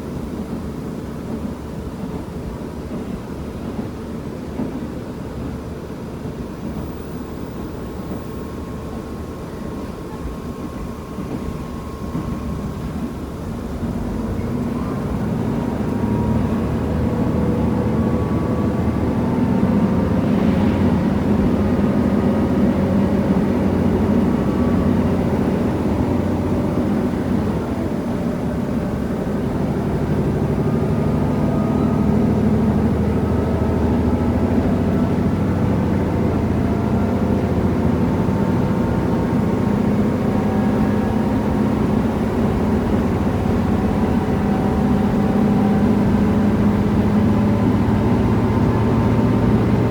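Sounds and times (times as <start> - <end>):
train running noise: 0.0 - 49.9
diesel engine droning: 9.8 - 49.9.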